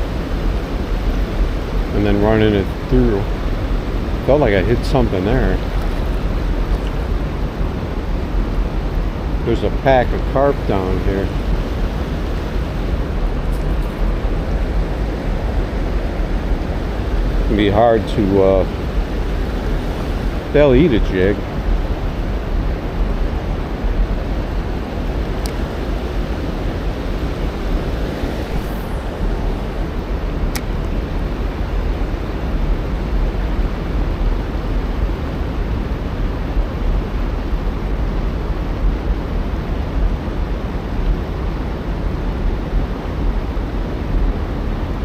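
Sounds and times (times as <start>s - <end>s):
white water roaring: 0.0s - 45.0s
wind rumble on microphone: 0.0s - 45.0s.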